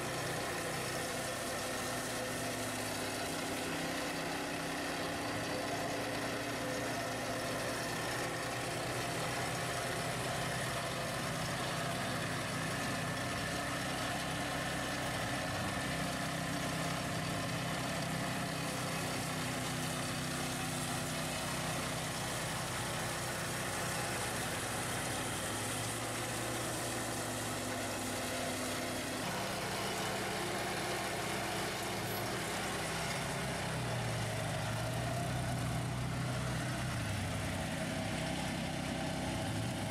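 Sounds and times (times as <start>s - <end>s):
mower and quad engines running: 0.0s - 39.9s.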